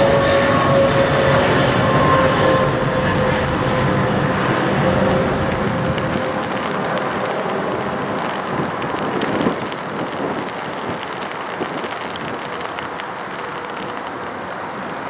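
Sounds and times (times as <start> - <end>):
jet engine roar: 0.0 - 15.0
rain pattering: 0.5 - 15.0.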